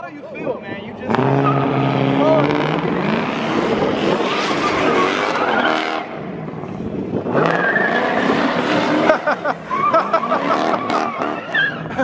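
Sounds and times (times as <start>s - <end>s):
car tyres screeching: 0.6s - 12.0s
car engine revving: 0.8s - 12.0s.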